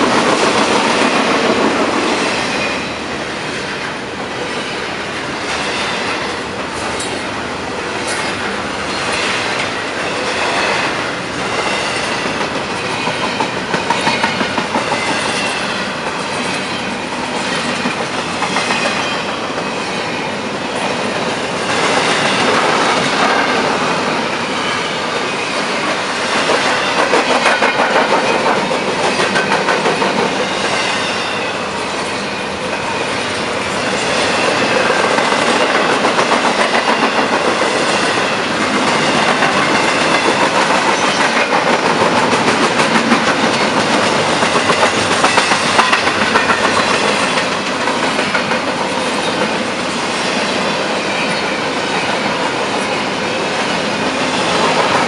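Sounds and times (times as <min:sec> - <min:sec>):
freight train wheels rumbling: 0:00.0 - 0:55.0
wheels clacking over rail joints: 0:03.5 - 0:20.2, 0:20.8 - 0:52.9.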